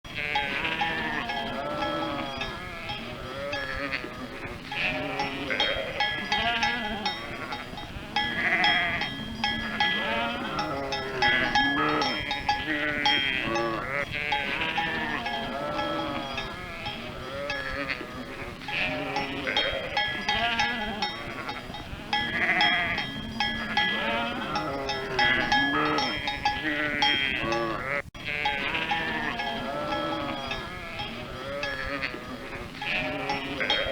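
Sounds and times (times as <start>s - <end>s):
sheep bells clanking: 0.1s - 33.9s
sheep bleating: 0.1s - 33.9s.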